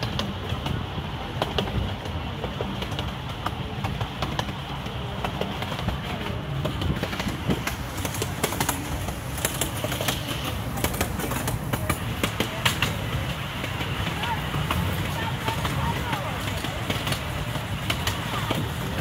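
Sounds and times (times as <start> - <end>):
miniature train rumbling on track: 0.0 - 19.0.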